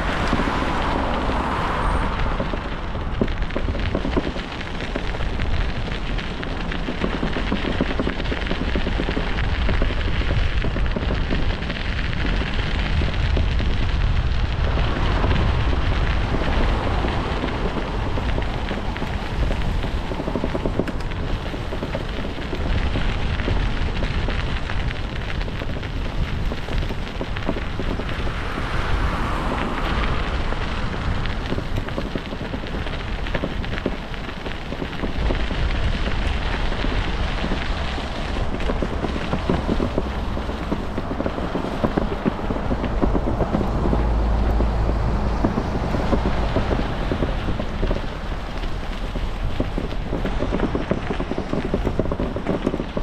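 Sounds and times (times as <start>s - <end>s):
tyre noise on road: 0.0s - 53.0s
wind rush on microphone: 0.0s - 53.0s.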